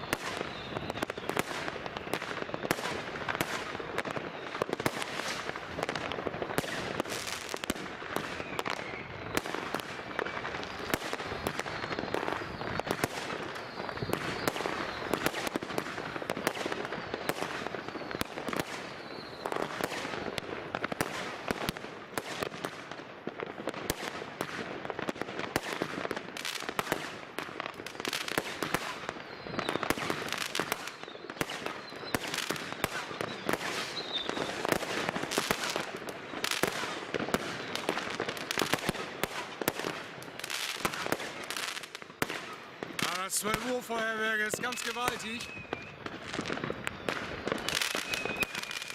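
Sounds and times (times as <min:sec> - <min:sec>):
faint firework whistles: 0:00.0 - 0:22.8, 0:25.4 - 0:48.9
fireworks cracking and banging: 0:00.0 - 0:48.9.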